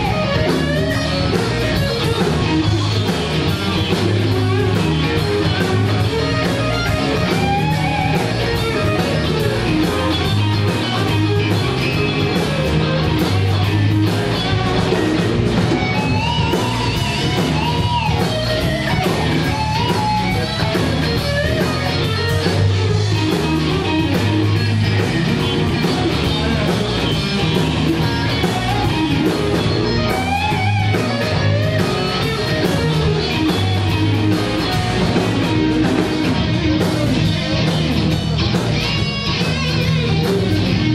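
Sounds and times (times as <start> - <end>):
blues band playing: 0.0 - 40.9
lead guitar line bending: 0.0 - 40.9.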